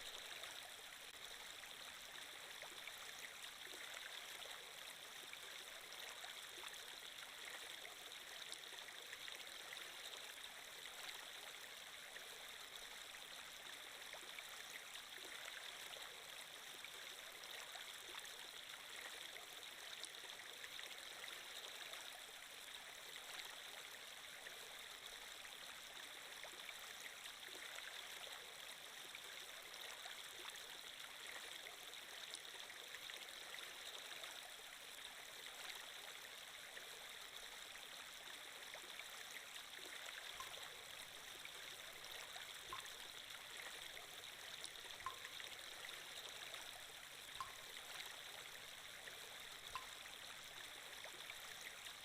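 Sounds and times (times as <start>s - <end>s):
faint running water: 0.0s - 52.0s.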